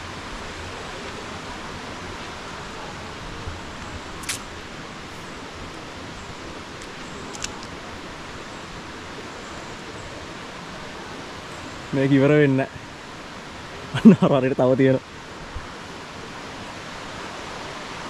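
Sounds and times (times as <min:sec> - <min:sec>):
waterfall and stream rushing: 0:00.0 - 0:18.0.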